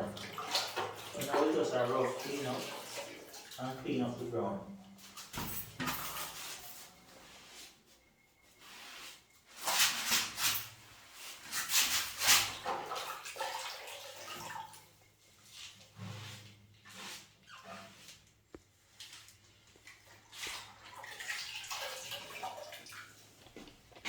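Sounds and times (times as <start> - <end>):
wet rag scrubbing floor: 0.0 - 24.0.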